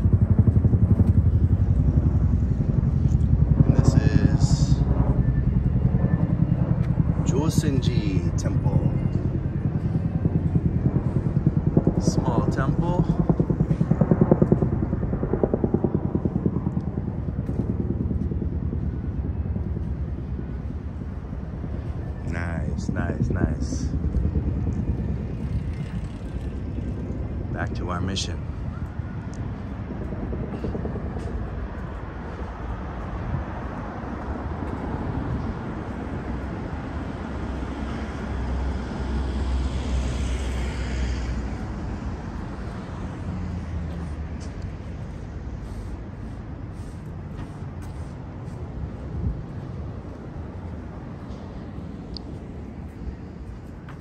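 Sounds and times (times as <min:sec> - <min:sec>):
street traffic: 0:00.0 - 0:54.0.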